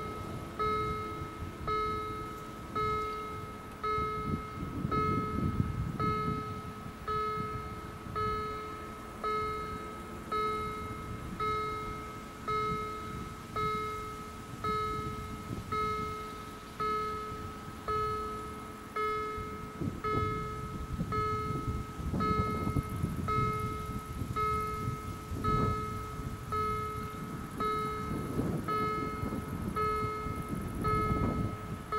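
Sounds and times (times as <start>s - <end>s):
level crossing warning bell: 0.0s - 31.9s.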